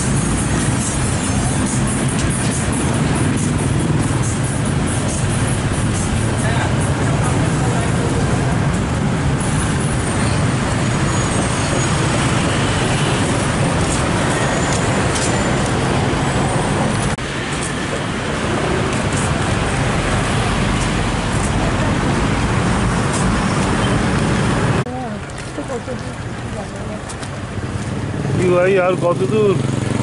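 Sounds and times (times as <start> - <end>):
street traffic passing: 0.0 - 30.0.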